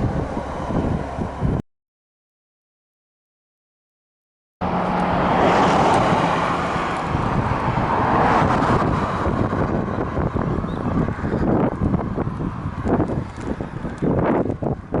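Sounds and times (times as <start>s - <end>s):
motor traffic passing: 0.0s - 1.6s, 4.6s - 15.0s
wind rushing over microphone: 0.0s - 1.6s, 4.6s - 15.0s.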